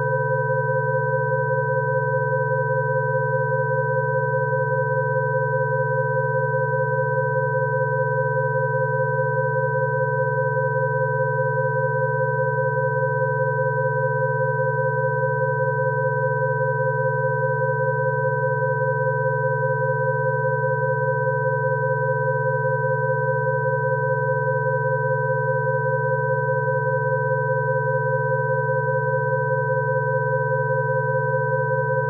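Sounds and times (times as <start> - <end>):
steady sine tones: 0.0 - 32.0.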